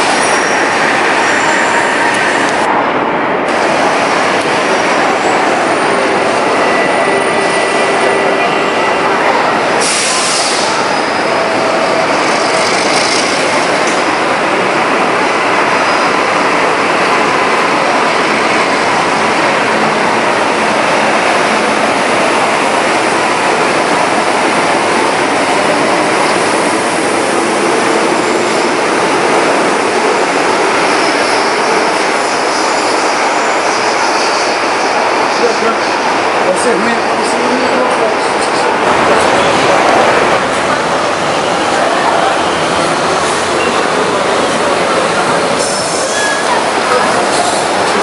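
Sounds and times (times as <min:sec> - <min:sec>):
trains rolling past: 0:00.0 - 0:48.0.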